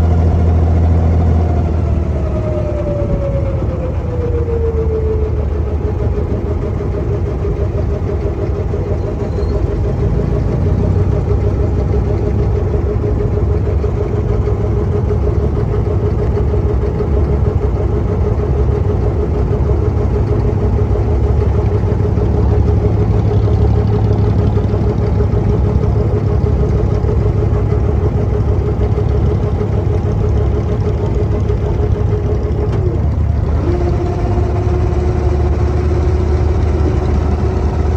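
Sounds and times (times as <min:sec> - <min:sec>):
boat diesel engine droning: 0:00.0 - 0:37.9.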